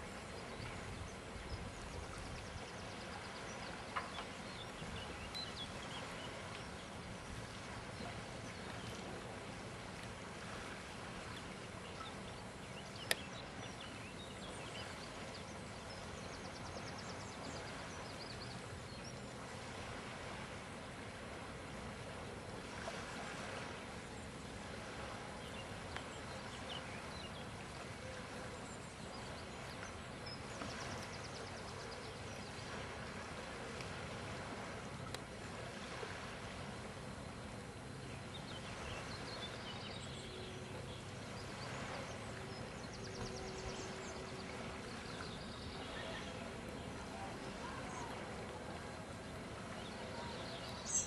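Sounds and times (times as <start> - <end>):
faint steady hum: 0.0 - 51.0
water rushing: 0.0 - 51.0
wind: 0.0 - 51.0.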